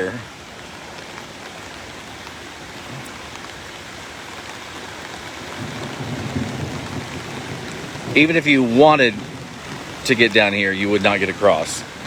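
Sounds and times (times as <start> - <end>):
falling rain: 0.0 - 12.0
flooded creek rushing: 0.0 - 12.0.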